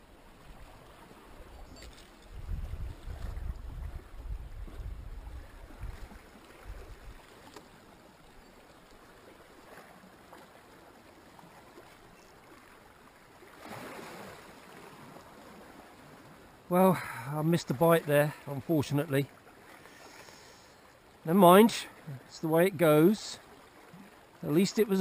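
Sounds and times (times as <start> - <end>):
sea water lapping against rocks: 0.5 - 16.6, 17.9 - 25.0.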